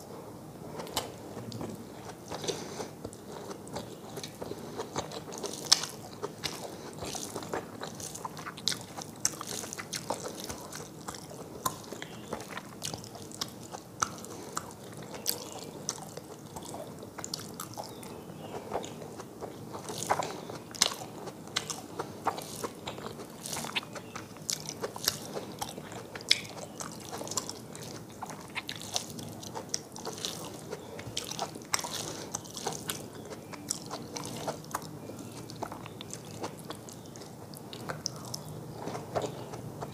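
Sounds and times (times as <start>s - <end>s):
person chewing and crunching food: 0.6s - 39.9s.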